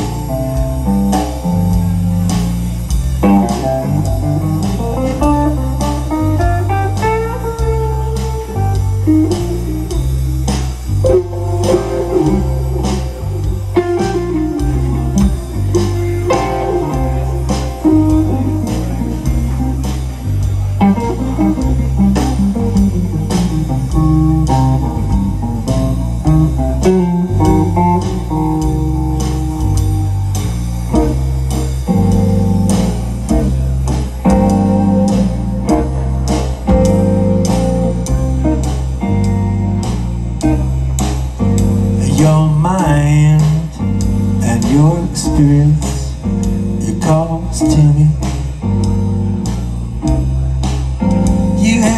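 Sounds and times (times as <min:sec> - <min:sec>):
bass guitar: 0:00.0 - 0:51.9
drum kit steady beat: 0:00.0 - 0:51.9
electric guitar lines: 0:00.0 - 0:51.9.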